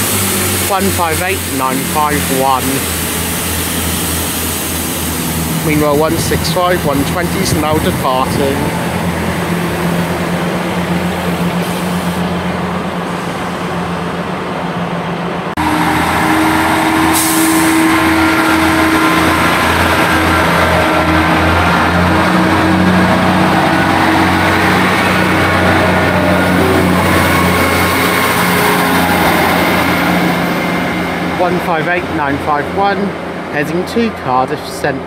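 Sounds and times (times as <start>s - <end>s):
diesel engine whining: 0.0s - 35.0s
diesel train pulling away: 0.0s - 35.0s.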